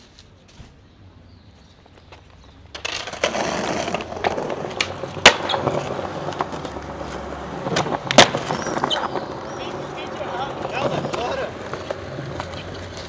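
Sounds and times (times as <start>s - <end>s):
skateboard wheels rolling on pavement: 0.0s - 13.0s
skateboard clacking on ground: 2.0s - 13.0s.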